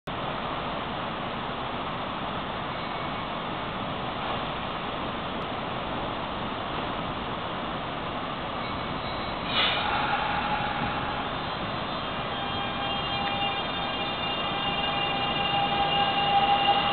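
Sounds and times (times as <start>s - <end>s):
electric train standing noise: 2.2s - 16.9s.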